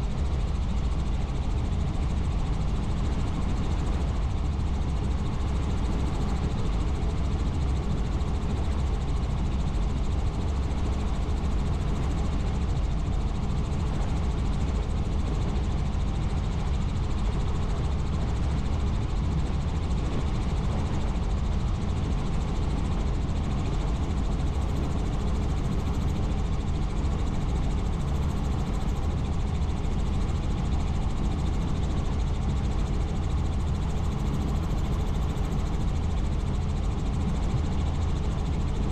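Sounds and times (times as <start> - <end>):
helicopter rotor and turbine noise: 0.0 - 38.9.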